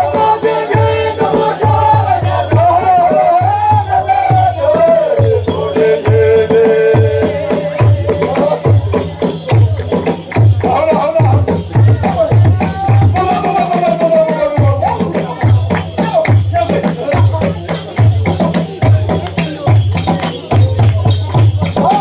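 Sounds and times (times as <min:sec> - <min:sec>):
deep drums beaten with sticks: 0:00.0 - 0:22.0
person singing: 0:00.0 - 0:22.0.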